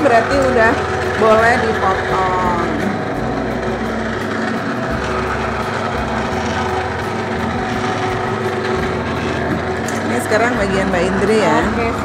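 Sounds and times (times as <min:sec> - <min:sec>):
noodle machine motor hum: 0:00.0 - 0:12.0.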